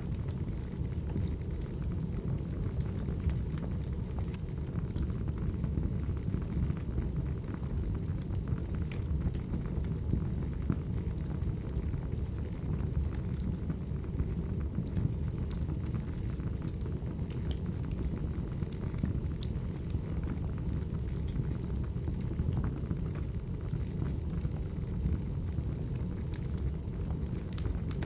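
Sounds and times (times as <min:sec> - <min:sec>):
fire rumbling: 0:00.0 - 0:28.0
firewood crackling and popping: 0:00.0 - 0:28.0.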